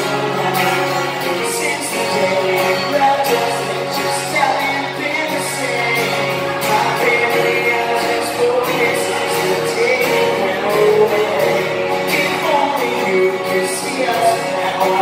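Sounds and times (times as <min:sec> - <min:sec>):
guitar: 0:00.0 - 0:15.0
man singing: 0:00.0 - 0:15.0
rock band playing live: 0:00.0 - 0:15.0.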